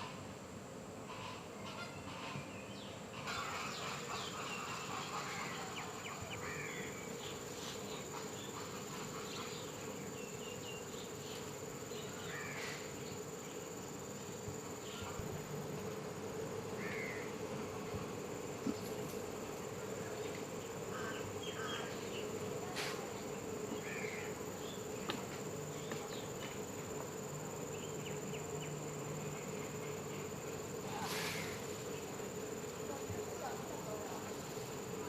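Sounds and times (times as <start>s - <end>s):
constant high whine: 0.0s - 35.0s
insect buzzing: 0.0s - 35.0s.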